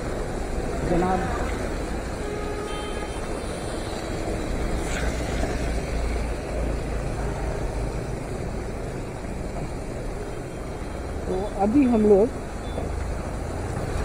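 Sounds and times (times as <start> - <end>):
falling rain: 0.0 - 14.0
tyres hissing on wet road: 0.0 - 14.0.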